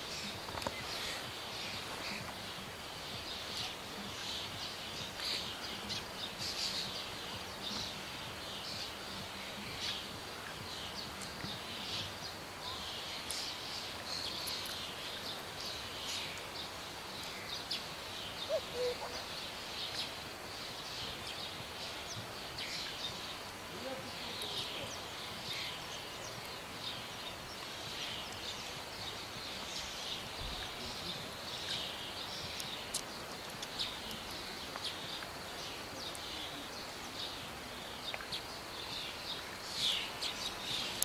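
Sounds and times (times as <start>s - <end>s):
birds chirping and singing: 0.0s - 41.0s
steady hiss: 0.0s - 41.0s.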